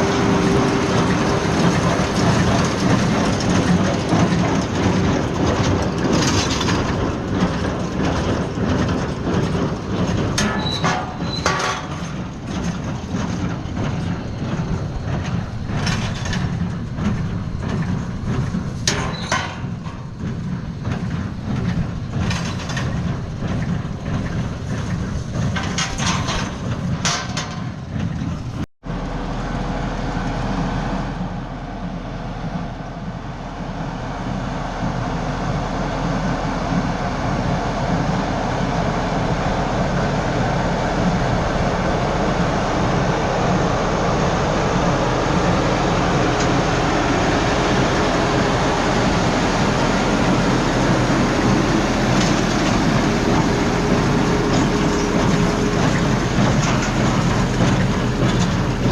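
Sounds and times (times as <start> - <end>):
tractor machinery drone with rattling: 0.0 - 58.9.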